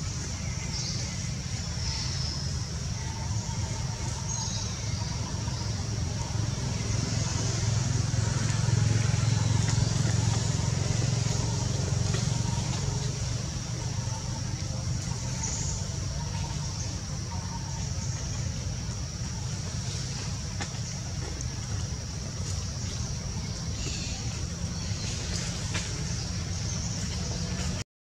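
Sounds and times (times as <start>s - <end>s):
low outdoor rumble: 0.0s - 27.8s.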